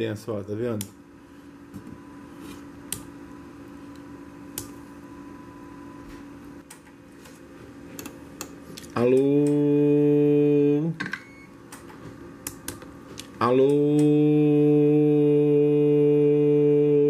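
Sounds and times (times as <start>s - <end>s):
low hum from radio: 0.0s - 17.0s.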